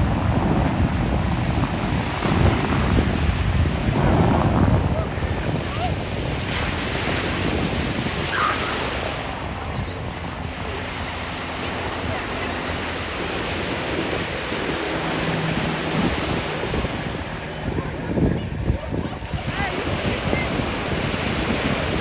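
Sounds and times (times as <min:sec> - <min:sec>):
ocean waves washing ashore: 0:00.0 - 0:22.0
wind buffeting microphone: 0:00.0 - 0:22.0.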